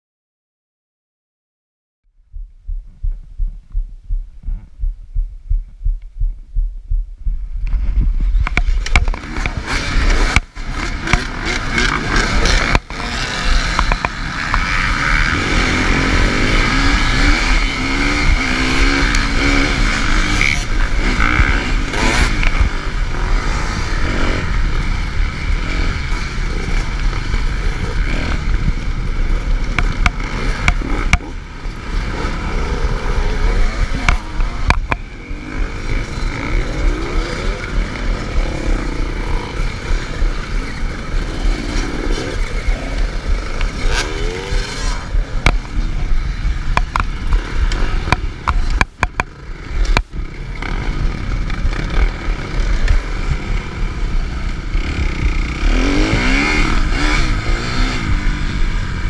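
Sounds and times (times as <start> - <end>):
dirt bikes revving and accelerating: 8.4 - 59.0.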